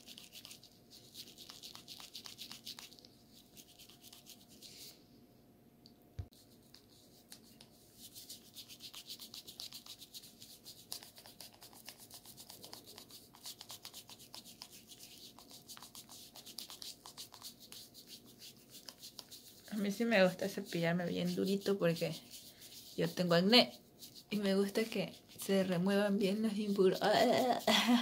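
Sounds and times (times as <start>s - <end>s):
brush scrubbing wet skin: 0.0s - 5.0s, 6.3s - 28.0s.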